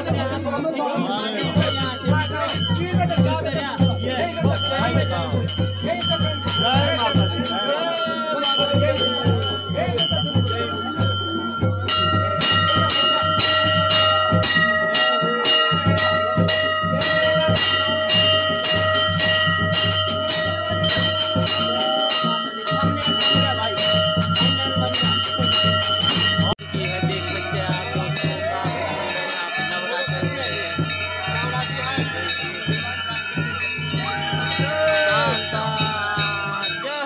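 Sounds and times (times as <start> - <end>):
brass bells ringing: 0.0 - 37.0
low rhythmic drumbeat: 0.0 - 37.0.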